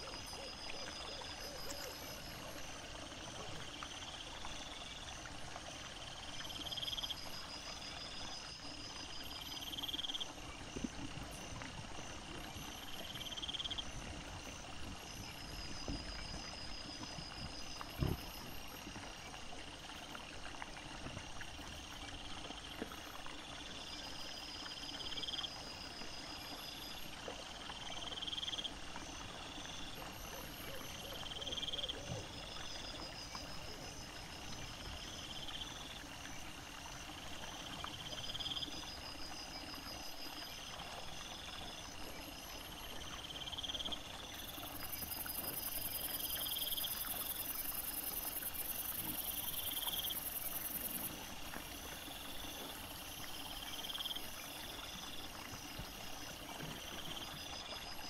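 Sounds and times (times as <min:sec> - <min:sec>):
night insects chirping: 0:00.0 - 0:58.0.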